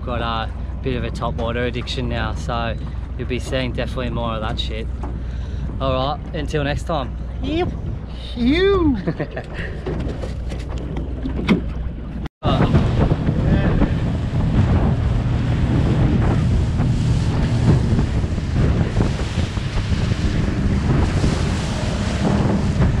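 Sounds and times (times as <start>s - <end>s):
water slapping against hull: 0.0s - 23.0s
wind buffeting microphone: 0.0s - 23.0s.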